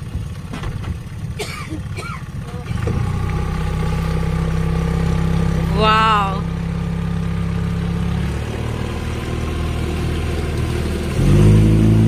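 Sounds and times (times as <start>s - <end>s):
motorboat engine running: 0.0s - 12.0s
water noise: 0.0s - 12.0s.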